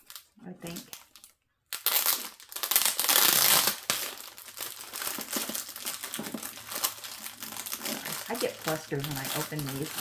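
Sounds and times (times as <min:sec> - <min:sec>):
plastic packets crinkling: 0:00.0 - 0:10.0.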